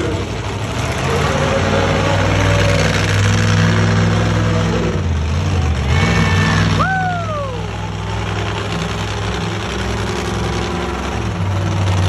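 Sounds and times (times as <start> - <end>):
monster truck engines running: 0.0 - 12.0.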